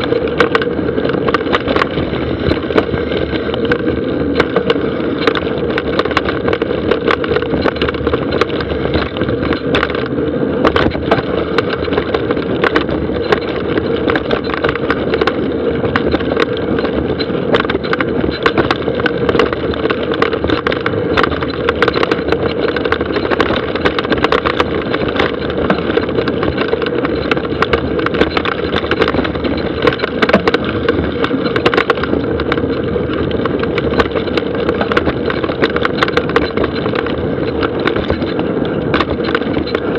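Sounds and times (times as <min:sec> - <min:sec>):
bike rattling and knocking: 0:00.0 - 0:39.9
bike tyres on dirt trail: 0:00.0 - 0:39.9.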